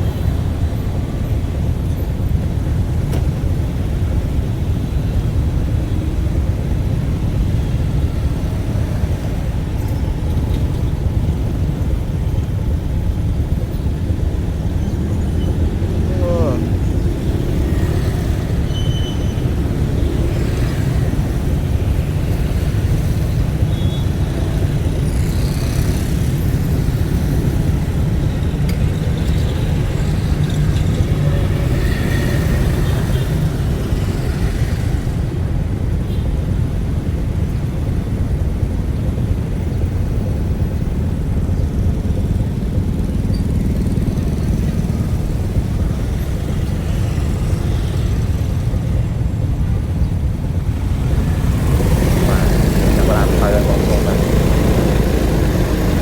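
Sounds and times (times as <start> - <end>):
road vehicle rumble: 0.0 - 56.0.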